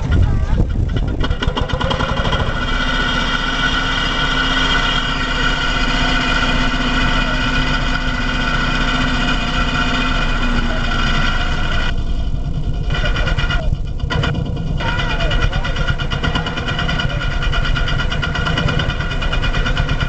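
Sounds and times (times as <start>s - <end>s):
high whine: 0.0s - 20.0s
tractor engine running: 0.0s - 20.0s.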